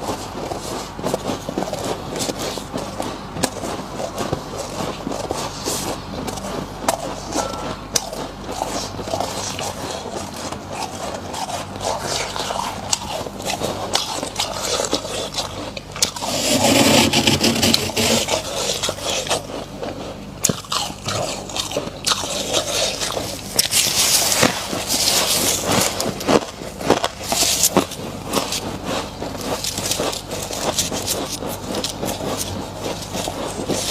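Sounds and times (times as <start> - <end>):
frost being scraped and crunched: 0.0 - 33.9.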